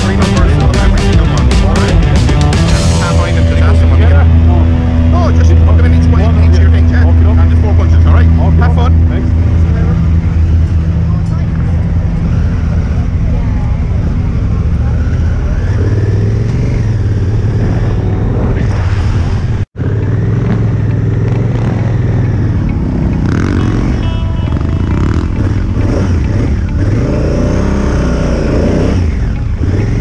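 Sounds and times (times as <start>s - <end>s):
vehicle engine running under load: 0.0s - 18.6s, 19.8s - 30.0s.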